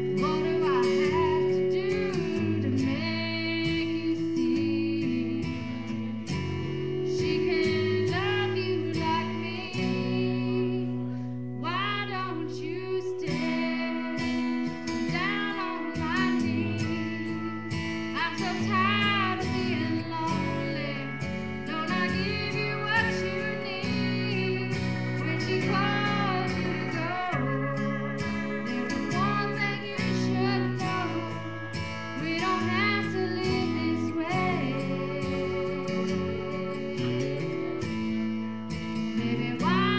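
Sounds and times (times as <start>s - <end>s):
guitar accompaniment: 0.0s - 39.9s
woman singing: 0.0s - 39.9s.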